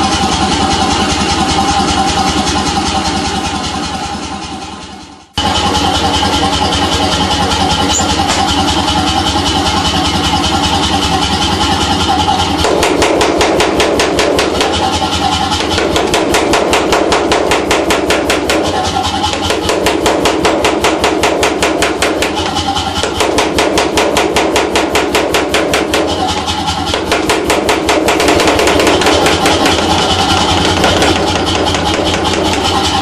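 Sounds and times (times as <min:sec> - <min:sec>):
power hammer motor running: 0:05.4 - 0:33.0.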